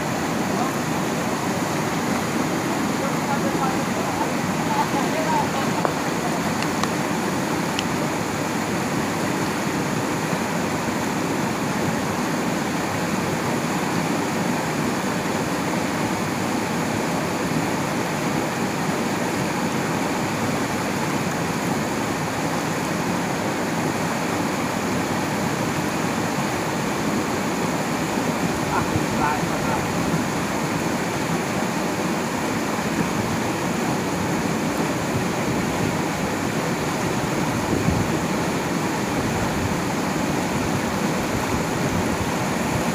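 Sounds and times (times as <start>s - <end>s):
river rapids rushing: 0.0s - 42.9s.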